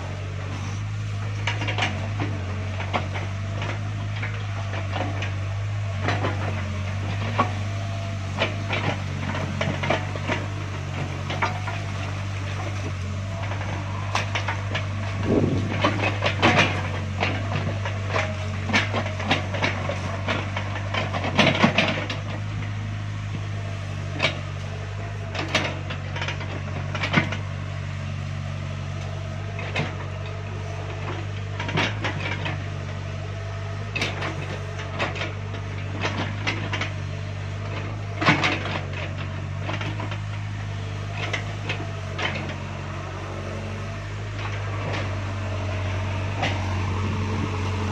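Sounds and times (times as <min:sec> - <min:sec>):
diesel engine humming: 0:00.0 - 0:47.9.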